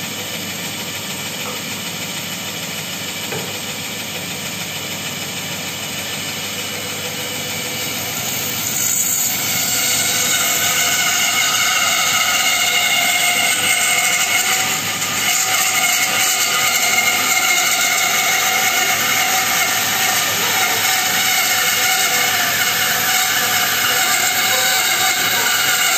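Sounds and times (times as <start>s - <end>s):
bandsaw cutting wood: 0.0s - 25.9s.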